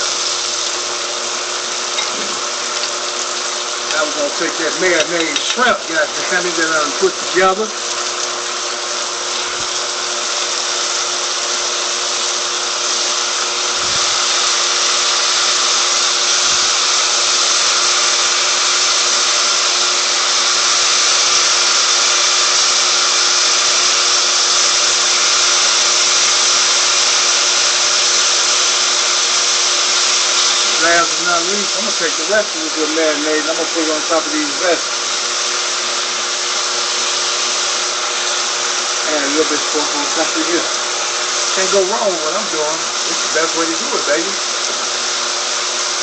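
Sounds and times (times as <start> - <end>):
shrimp sizzling on grill: 0.0 - 46.0.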